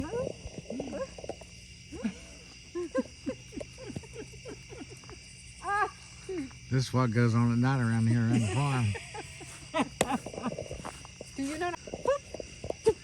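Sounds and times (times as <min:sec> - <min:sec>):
crickets trilling: 0:00.0 - 0:13.0
frogs calling: 0:00.0 - 0:13.0.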